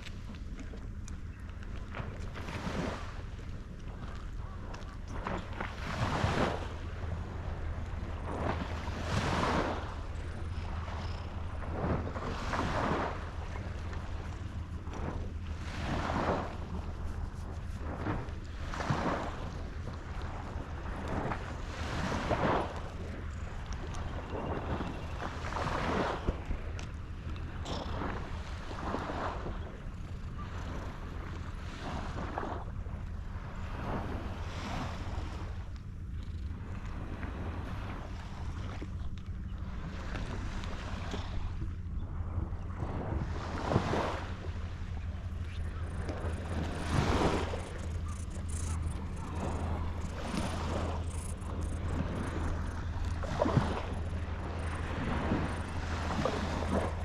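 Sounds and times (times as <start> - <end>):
sea waves washing against breakwater: 0.0 - 39.0, 39.7 - 57.0
steady low hum: 0.0 - 57.0
wind buffeting microphone: 0.0 - 57.0.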